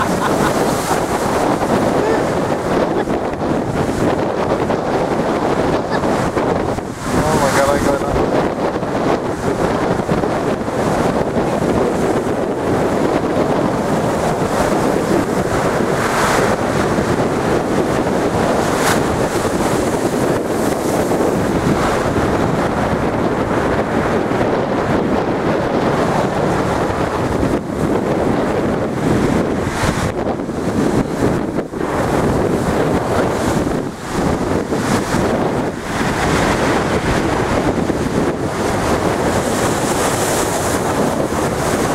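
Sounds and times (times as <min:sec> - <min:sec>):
sea surf breaking on wall: 0:00.0 - 0:41.9
wind buffeting microphone: 0:00.0 - 0:41.9.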